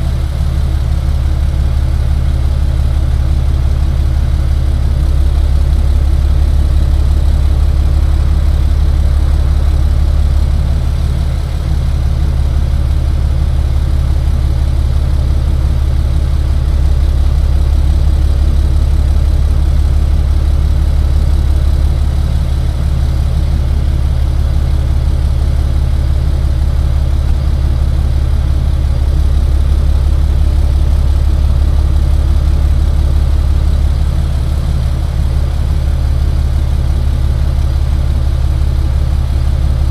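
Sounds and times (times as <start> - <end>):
tow truck engine running: 0.0 - 39.9.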